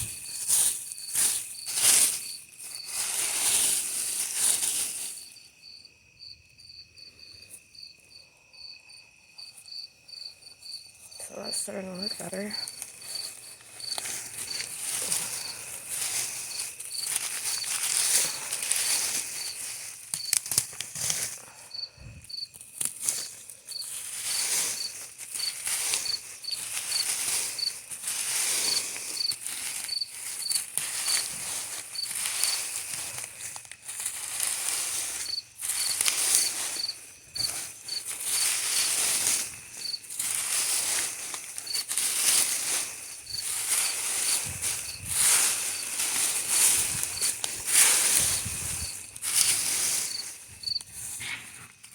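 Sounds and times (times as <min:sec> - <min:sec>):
scraping in soil and rocks: 0:00.0 - 0:05.7, 0:10.6 - 0:51.9
cricket chirping: 0:00.0 - 0:51.9.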